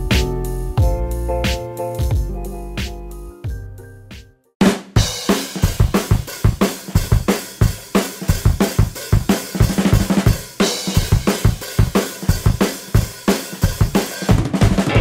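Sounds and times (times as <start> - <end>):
drum-heavy music: 0.0 - 15.0.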